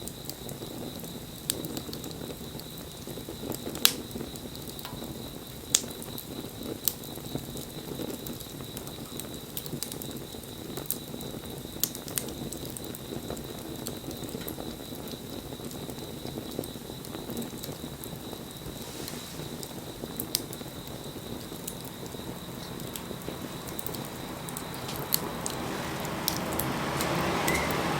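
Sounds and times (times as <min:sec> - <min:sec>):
fire pops and snaps: 0:00.0 - 0:27.7
wood fire burning rush: 0:00.0 - 0:27.9.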